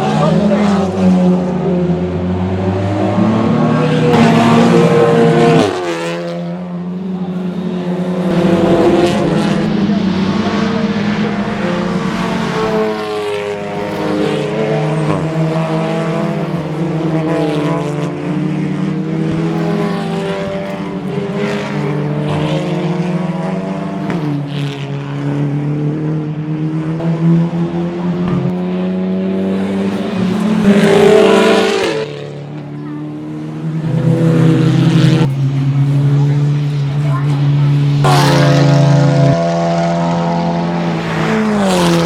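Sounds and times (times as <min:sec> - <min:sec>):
race cars passing: 0:00.0 - 0:42.0.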